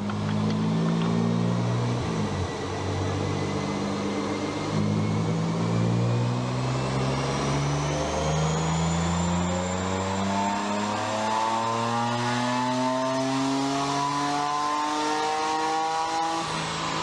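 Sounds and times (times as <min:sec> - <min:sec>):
thin rising whine: 0:00.0 - 0:17.0.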